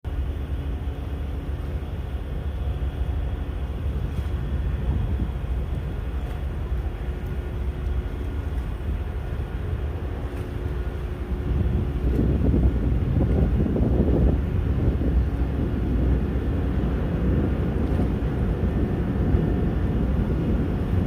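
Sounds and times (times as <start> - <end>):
faint humming tones: 0.1 - 21.0
ship engines rumbling: 0.1 - 21.0.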